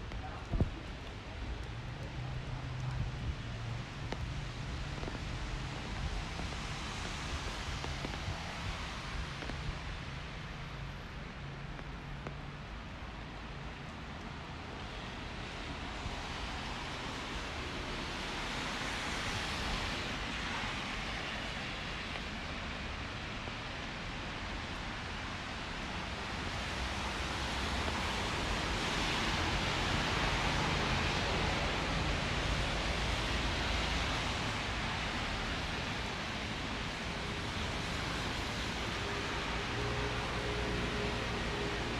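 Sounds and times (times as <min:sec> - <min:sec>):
rain hissing on city street: 0:00.0 - 0:41.9.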